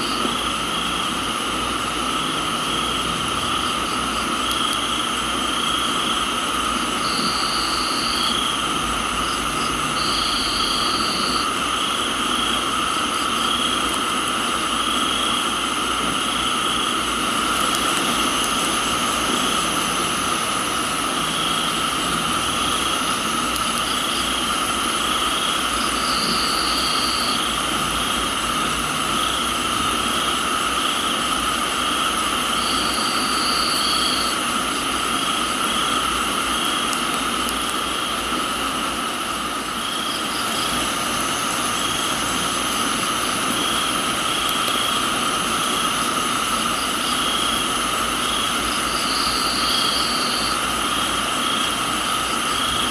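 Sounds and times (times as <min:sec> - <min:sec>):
crickets chirping: 0:00.0 - 0:52.9
high insect trill: 0:00.0 - 0:52.9
rain hiss: 0:00.0 - 0:52.9.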